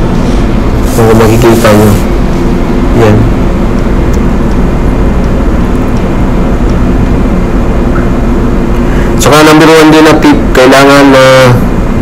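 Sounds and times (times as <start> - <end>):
ship machinery drone: 0.0 - 12.0.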